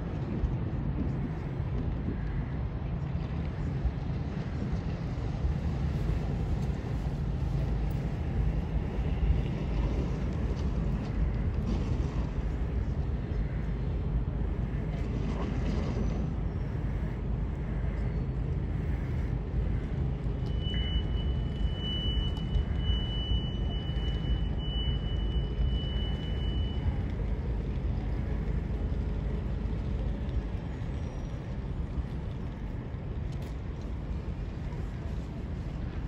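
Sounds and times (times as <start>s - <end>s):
ship engines rumbling: 2.5s - 36.0s.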